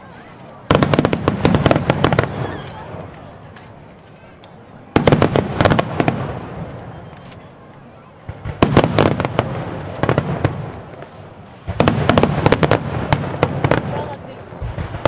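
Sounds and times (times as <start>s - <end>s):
fireworks bursting with bangs and crackles: 0.0s - 15.0s.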